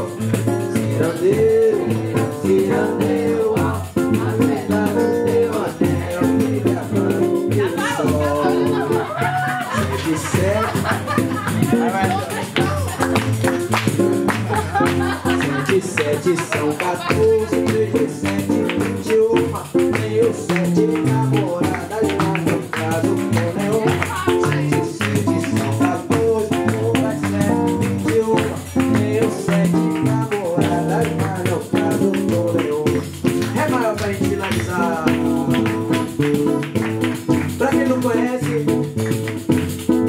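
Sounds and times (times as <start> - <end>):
acoustic guitar playing: 0.0 - 40.0
hand percussion: 0.0 - 40.0.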